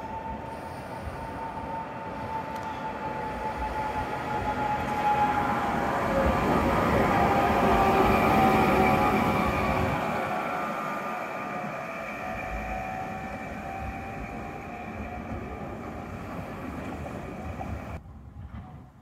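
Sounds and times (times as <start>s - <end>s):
tram running on rails with whine: 0.0s - 19.0s.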